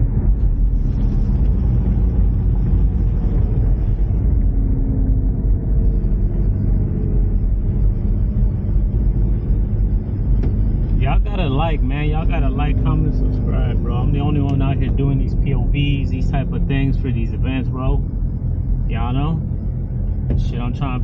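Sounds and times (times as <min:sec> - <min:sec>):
car engine droning: 0:00.0 - 0:21.0
road rumble: 0:00.0 - 0:21.0.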